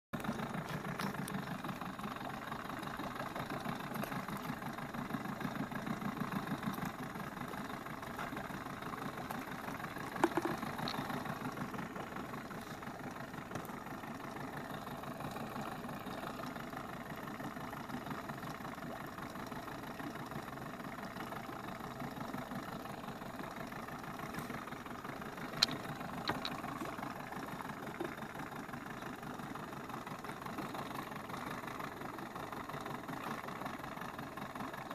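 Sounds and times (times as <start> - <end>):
engine idling with pulsing: 0.1 - 34.9.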